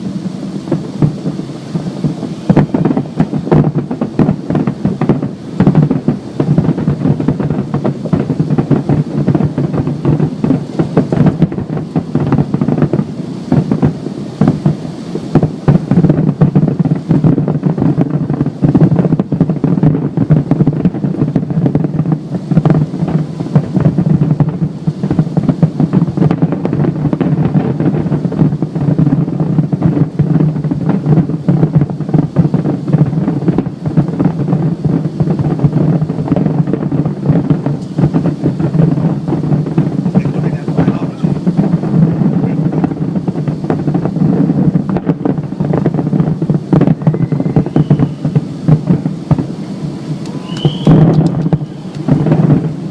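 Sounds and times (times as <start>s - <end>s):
fireworks booming: 0.0s - 52.9s.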